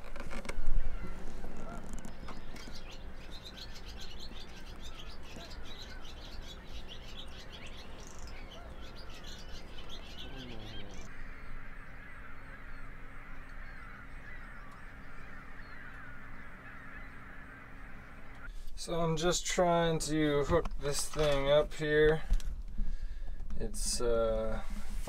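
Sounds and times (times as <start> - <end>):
birds chirping: 0.0 - 25.0
low bird chatter: 0.0 - 25.0
faint steady hum: 0.6 - 21.0.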